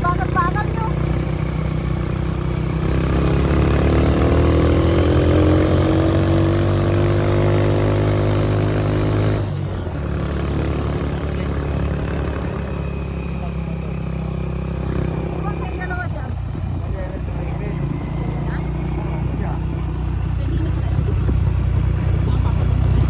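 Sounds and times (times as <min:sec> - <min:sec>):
low road and wind rumble: 0:00.0 - 0:23.0
vehicle engine running: 0:00.0 - 0:23.0.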